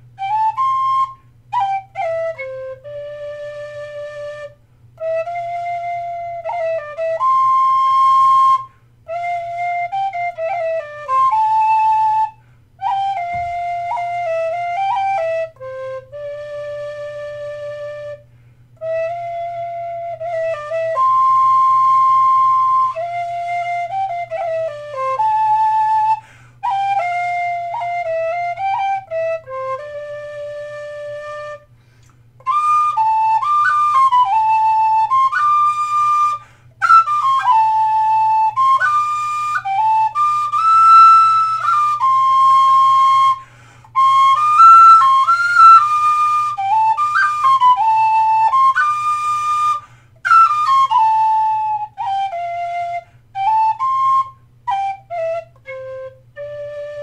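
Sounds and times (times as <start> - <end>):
tin whistle playing slow air: 0.0 - 31.8, 32.4 - 57.0.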